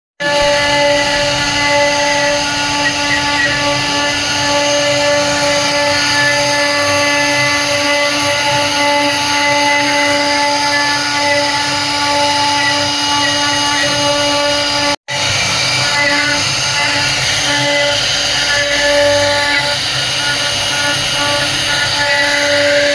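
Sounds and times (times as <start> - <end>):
router cutting wood: 0.2 - 22.9
router spindle whine: 0.2 - 22.9.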